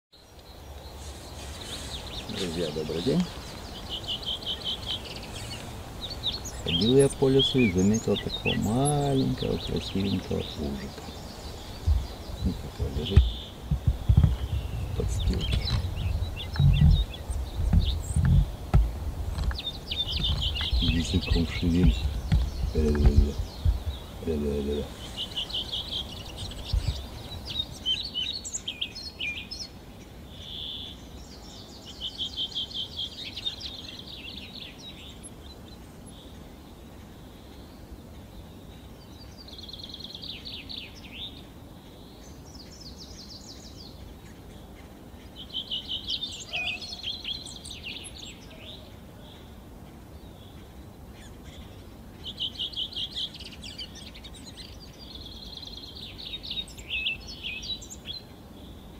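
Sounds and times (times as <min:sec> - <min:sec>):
faint background hum of woods: 0:00.1 - 0:58.9
songbirds singing: 0:00.1 - 0:58.9.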